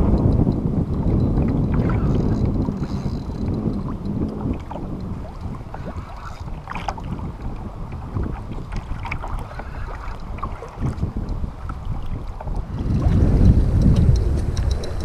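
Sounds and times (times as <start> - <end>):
small splashes and ticks: 0.0 - 15.0
water lapping against kayak hull: 0.0 - 15.0
wind buffeting microphone: 0.0 - 15.0.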